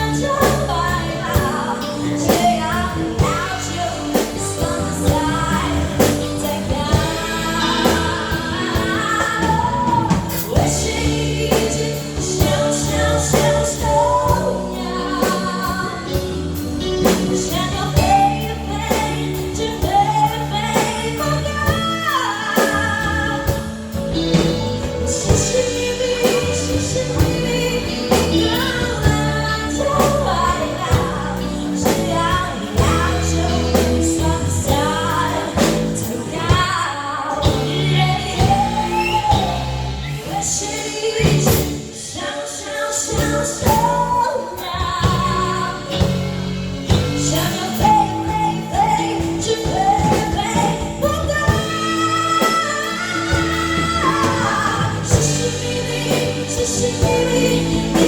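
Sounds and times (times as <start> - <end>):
live band playing pop-rock: 0.0 - 58.0
person singing: 0.0 - 58.0.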